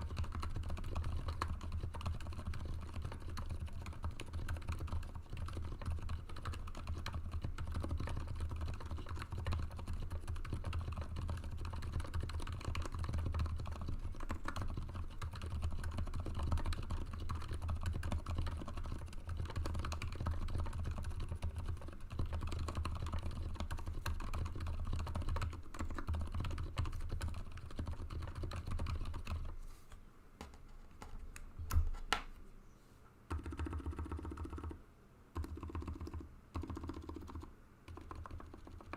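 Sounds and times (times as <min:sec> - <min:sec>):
fast keyboard typing: 0:00.0 - 0:29.6, 0:33.3 - 0:34.8, 0:35.4 - 0:38.9.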